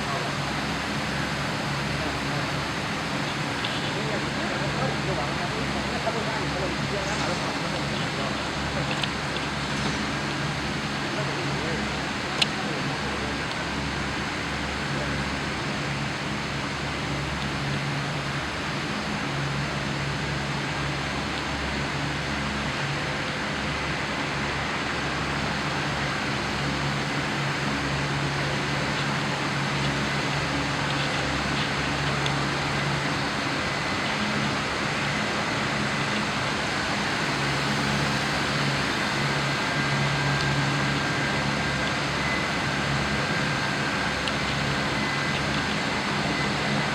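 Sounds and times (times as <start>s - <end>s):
machinery hum and rushing: 0.0s - 46.9s.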